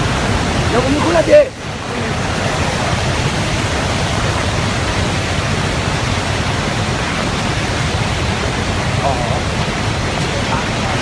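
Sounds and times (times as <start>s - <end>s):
churning flood water rushing: 0.0s - 11.0s.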